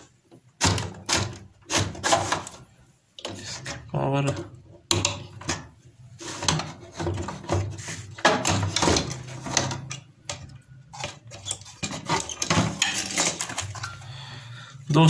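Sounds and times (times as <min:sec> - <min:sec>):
circuit board scraping plastic cabinet: 0:00.6 - 0:14.0.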